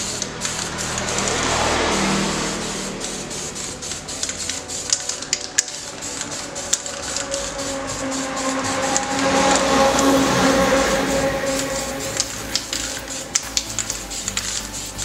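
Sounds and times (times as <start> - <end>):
aerosol spray hiss: 0.0 - 15.0.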